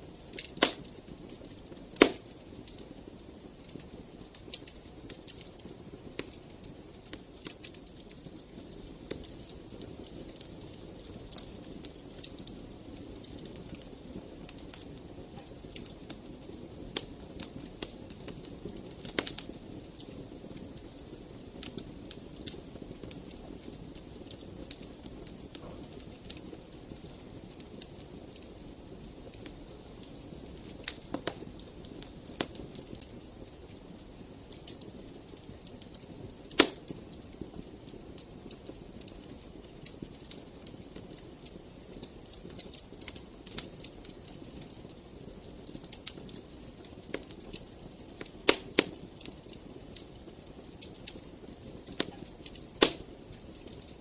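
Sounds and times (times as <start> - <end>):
low noise of flames: 0.0 - 54.0
wood fire snapping: 0.1 - 54.0.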